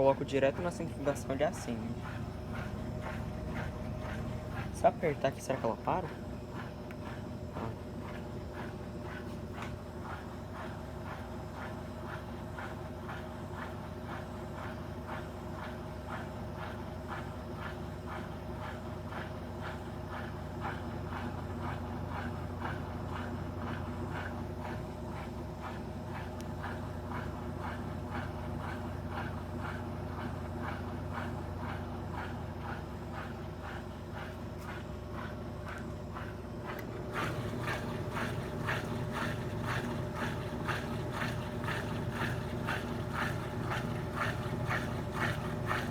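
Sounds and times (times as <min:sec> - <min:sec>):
rhythmic swish of spinning drum: 0:00.0 - 0:45.9
washing machine motor hum: 0:00.0 - 0:45.9.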